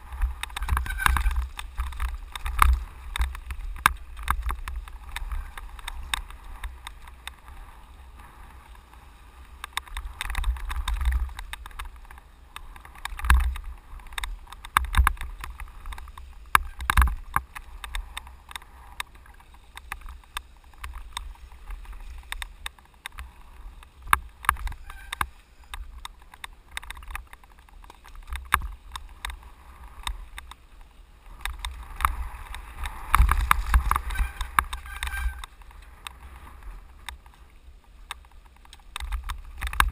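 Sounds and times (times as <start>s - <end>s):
bike knocks and rattles: 0.0s - 39.9s
tyres on dirt and rock: 0.0s - 39.9s
wind rumble on microphone: 0.0s - 39.9s.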